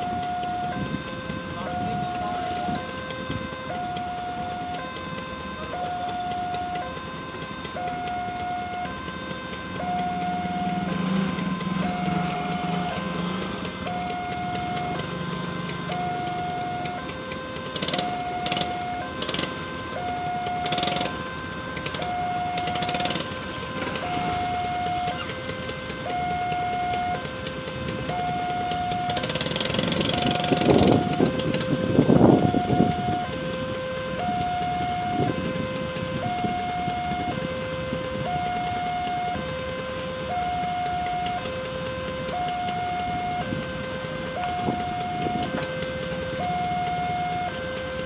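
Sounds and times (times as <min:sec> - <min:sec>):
level crossing warning alarm: 0:00.0 - 0:48.0
motorcycle engines revving: 0:00.0 - 0:48.0.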